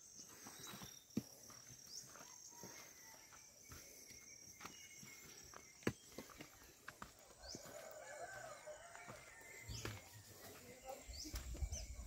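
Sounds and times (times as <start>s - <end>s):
footsteps scuffing on dirt trail: 0.0s - 12.0s.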